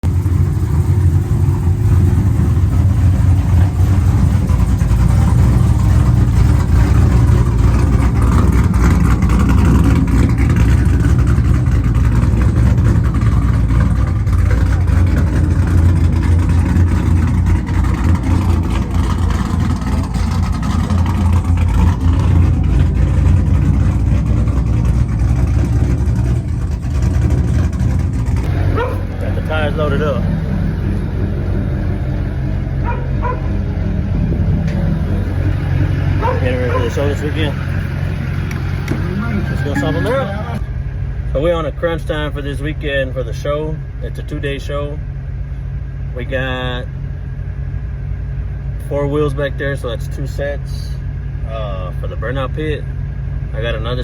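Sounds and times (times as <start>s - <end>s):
vehicle engine low rumble: 0.0s - 54.0s.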